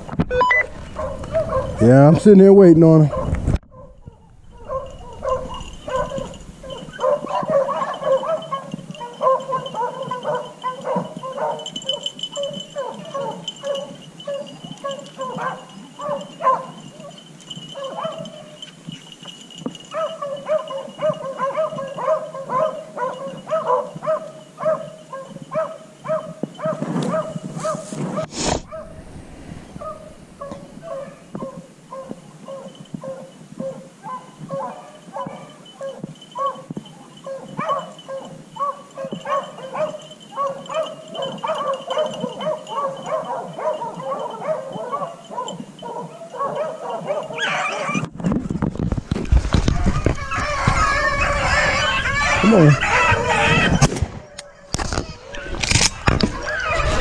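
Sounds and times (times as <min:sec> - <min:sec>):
rustle: 0:00.0 - 0:57.0
hounds barking and baying: 0:00.5 - 0:48.1, 0:49.4 - 0:57.0.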